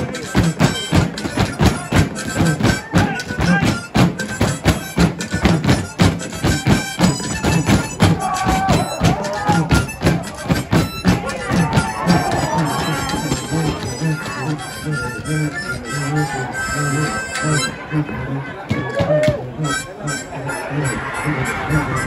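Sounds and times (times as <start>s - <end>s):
reedy harmonica melody: 0.0s - 22.0s.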